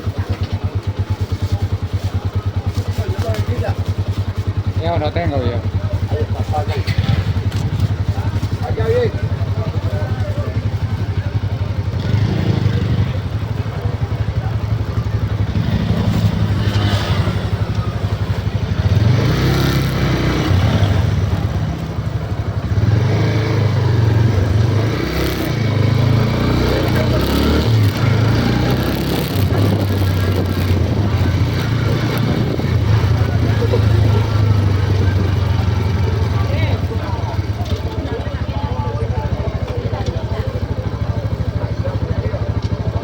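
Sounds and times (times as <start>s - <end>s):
clatter: 0.0s - 38.7s
vehicle engine droning: 0.0s - 43.0s.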